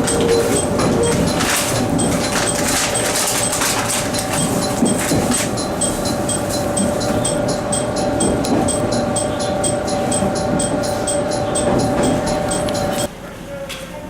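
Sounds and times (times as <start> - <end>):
two-note train hum: 0.0 - 13.1.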